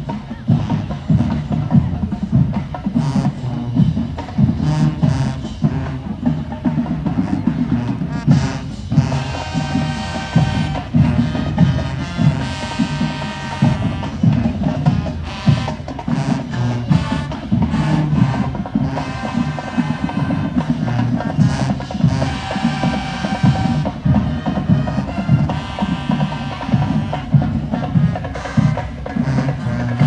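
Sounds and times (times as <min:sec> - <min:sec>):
instrumental music with drum beat: 0:00.0 - 0:30.0.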